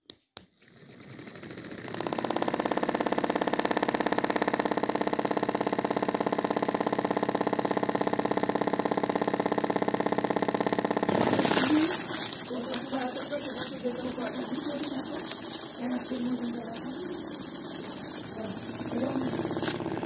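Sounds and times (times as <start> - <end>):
small electric motor whirring: 0.6 - 20.0.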